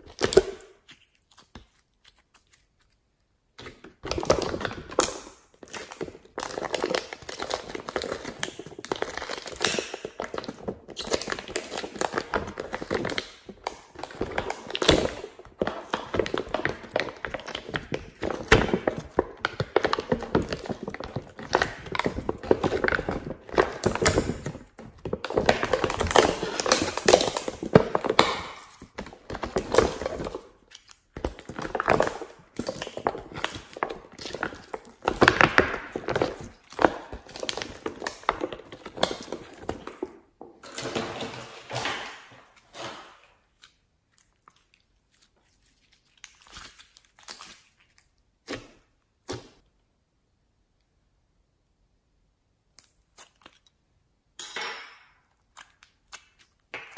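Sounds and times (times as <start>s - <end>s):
slime crackling and squelching: 0.0s - 49.6s, 52.6s - 54.0s, 55.2s - 56.9s.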